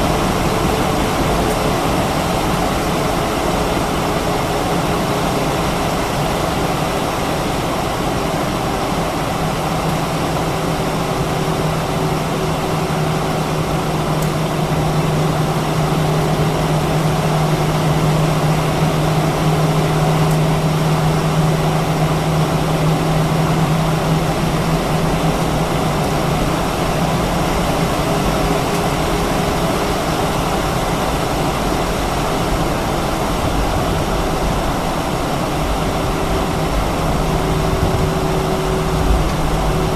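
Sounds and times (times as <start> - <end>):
airplane cabin rumble and hiss: 0.0 - 39.9
low hum: 0.0 - 39.9.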